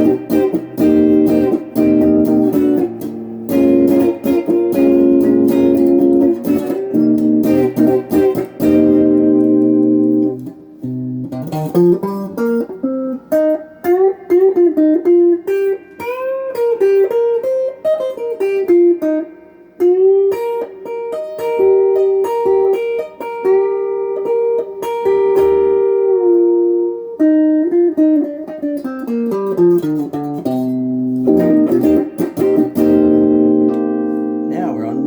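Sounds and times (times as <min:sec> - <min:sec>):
overdriven electric guitar blues lead: 0:00.0 - 0:35.0.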